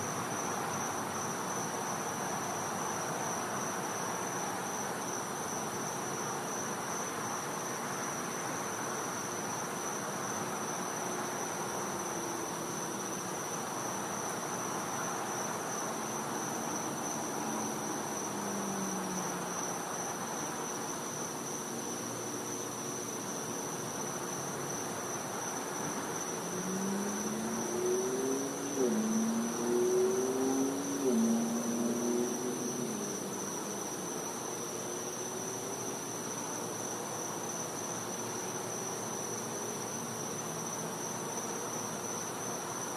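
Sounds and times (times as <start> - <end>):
faint background hiss: 0.0 - 42.9
night insects chirring: 0.0 - 42.9.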